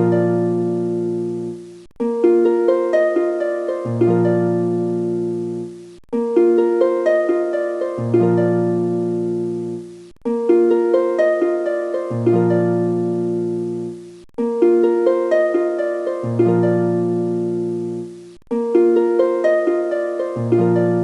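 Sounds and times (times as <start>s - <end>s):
plucked harp-like music: 0.0s - 21.0s.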